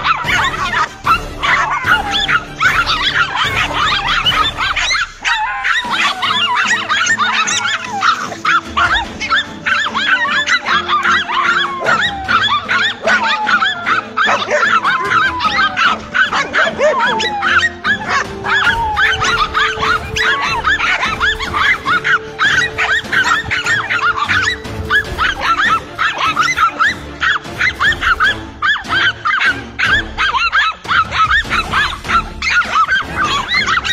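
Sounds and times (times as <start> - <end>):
background music: 0.0 - 33.9
dogs barking and yelping: 0.0 - 33.9.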